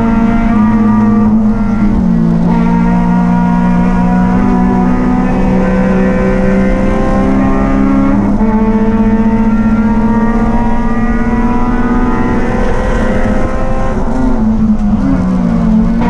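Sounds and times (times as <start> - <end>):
racing engine at high revs: 0.0 - 16.0.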